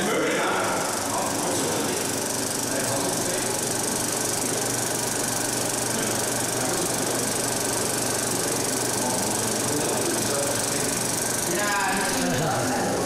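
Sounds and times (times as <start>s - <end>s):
film projector clattering: 0.0s - 13.0s.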